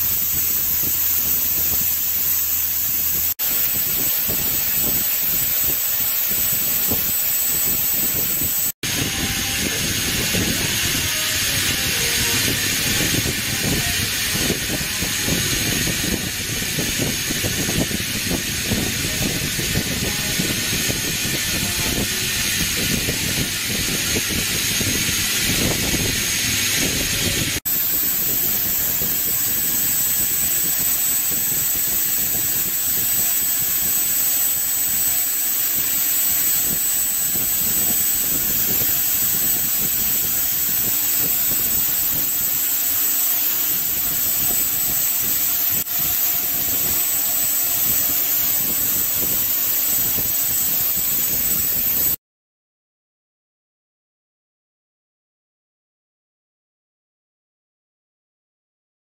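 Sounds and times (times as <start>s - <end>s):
milling machine cutting metal: 0.0s - 52.2s.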